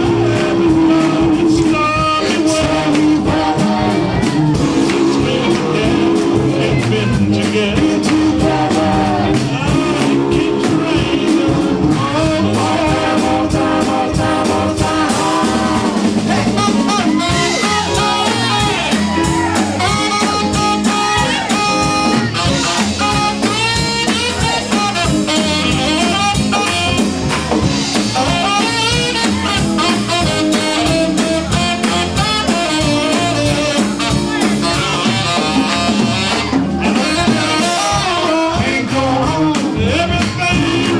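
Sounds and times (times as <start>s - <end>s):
band with guitar brass drums: 0.0s - 40.9s
doo-wop group singing: 0.0s - 40.9s.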